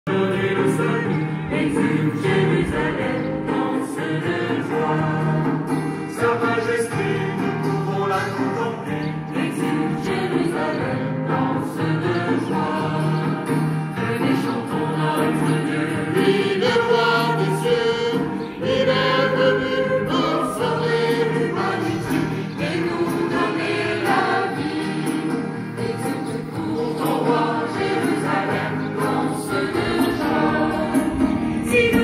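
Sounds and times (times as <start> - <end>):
choir singing: 0.1 - 32.0.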